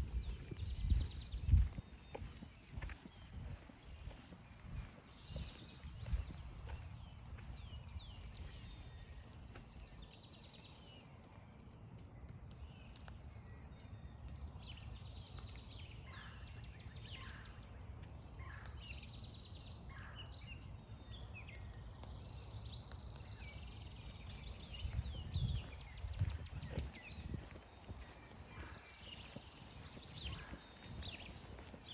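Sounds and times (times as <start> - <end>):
songbirds singing and calling: 0.0 - 31.9.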